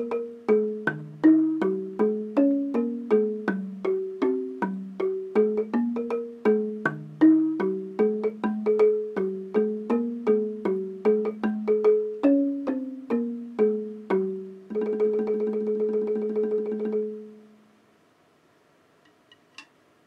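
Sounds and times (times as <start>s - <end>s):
xylophone melody with mallets: 0.0s - 17.4s.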